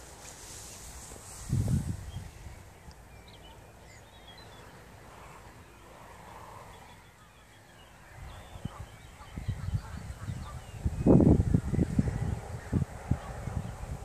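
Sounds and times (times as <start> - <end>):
distant bird calls: 0.0 - 14.0
outdoor background hiss: 0.0 - 14.0.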